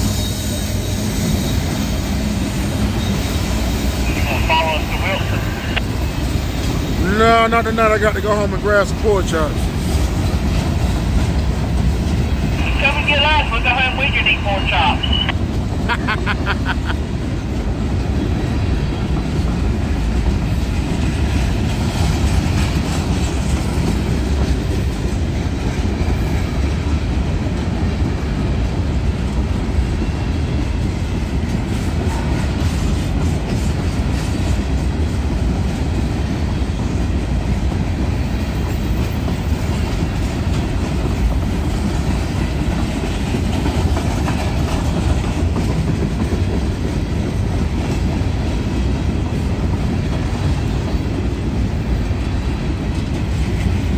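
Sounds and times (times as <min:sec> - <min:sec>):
freight train wheels rumbling: 0:00.0 - 0:53.9
clickety-clack over rail joints: 0:05.7 - 0:12.6, 0:16.8 - 0:53.9.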